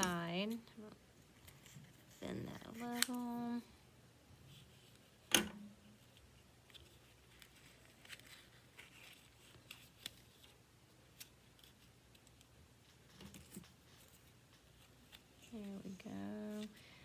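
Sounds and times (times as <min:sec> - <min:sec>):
paper crinkling and crackling: 0:00.0 - 0:03.6, 0:05.9 - 0:16.8.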